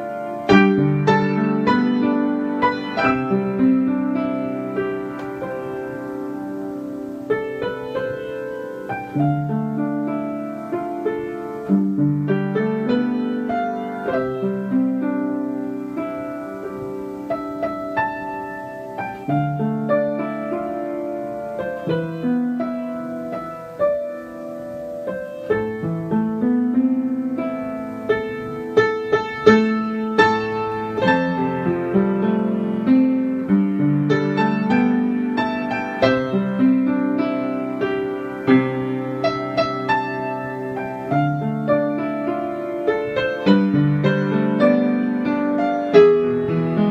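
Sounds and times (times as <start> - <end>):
gentle piano melody: 0.0 - 46.9.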